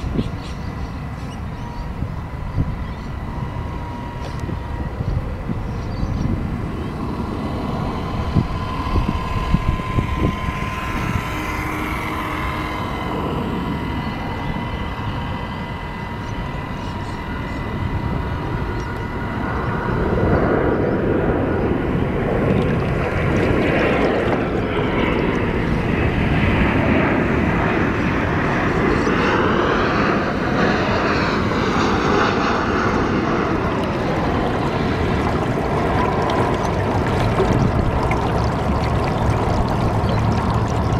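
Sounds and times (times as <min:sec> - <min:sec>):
broad rushing drone: 0:00.0 - 0:40.9
motor drone: 0:00.0 - 0:40.9
thin steady whine: 0:00.0 - 0:40.9
wind buffeting microphone: 0:00.0 - 0:40.9.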